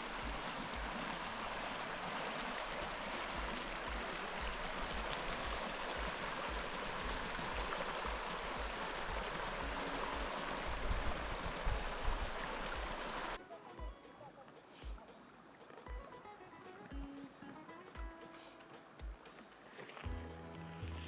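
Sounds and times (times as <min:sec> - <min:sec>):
water rushing steadily: 0:00.0 - 0:21.0.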